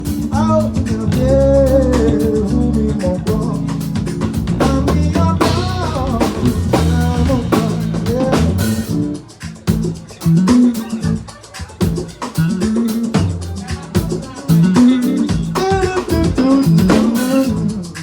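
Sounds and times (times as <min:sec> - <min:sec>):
person singing: 0:00.0 - 0:09.3, 0:10.2 - 0:18.0
drums: 0:00.0 - 0:18.0
guitar: 0:00.0 - 0:18.0.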